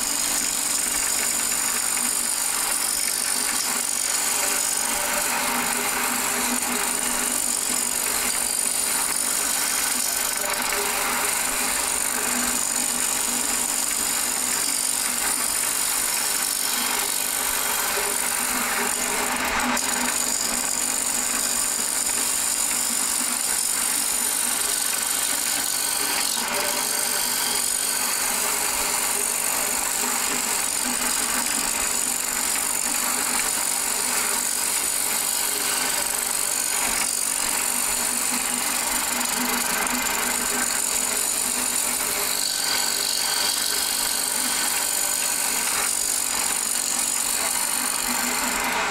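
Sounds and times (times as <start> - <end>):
lathe motor whine: 0.0 - 48.9
tool scraping wood on lathe: 0.0 - 48.9.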